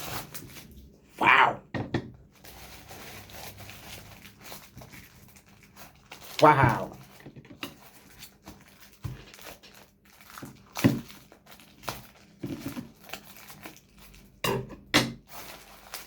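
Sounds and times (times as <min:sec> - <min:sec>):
packaging crinkling and tearing: 0:00.0 - 0:00.9, 0:02.4 - 0:14.4, 0:15.2 - 0:16.0.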